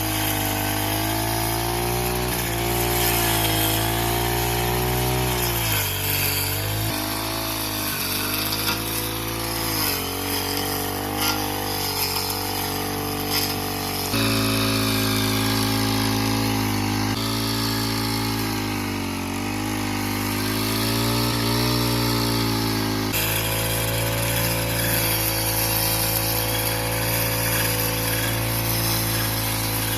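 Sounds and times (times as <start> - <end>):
brush cutter cutting: 0.0 - 29.9.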